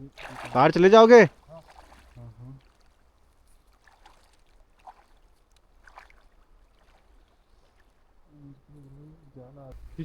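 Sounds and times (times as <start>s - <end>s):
low steady river rumble: 0.0s - 10.0s
water splashing and sloshing: 0.0s - 10.0s.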